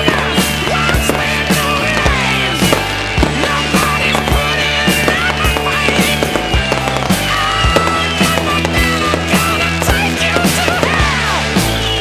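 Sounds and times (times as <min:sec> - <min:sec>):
low held bass notes: 0:00.0 - 0:12.0
steady drum beat: 0:00.0 - 0:12.0.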